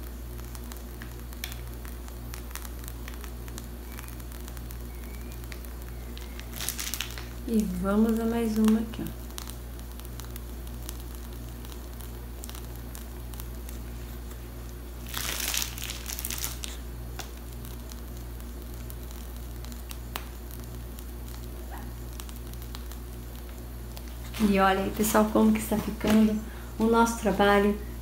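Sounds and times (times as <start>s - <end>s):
cream squelching from piping bag: 0.0s - 28.0s
low hum: 0.0s - 28.0s
crinkling rustle: 0.1s - 27.8s.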